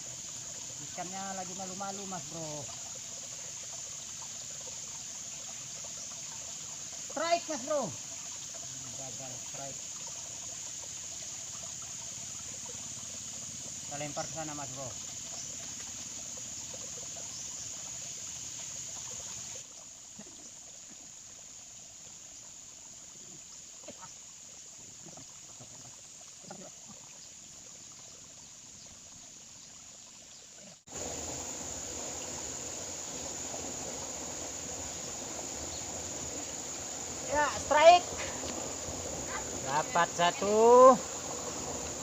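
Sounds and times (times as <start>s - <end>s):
insects chorus: 0.0s - 42.0s.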